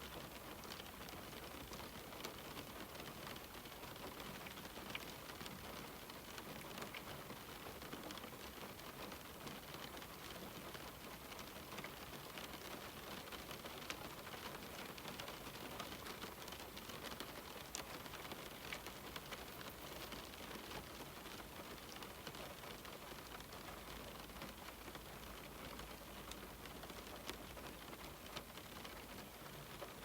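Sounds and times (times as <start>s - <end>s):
rain on a window: 0.0s - 30.0s.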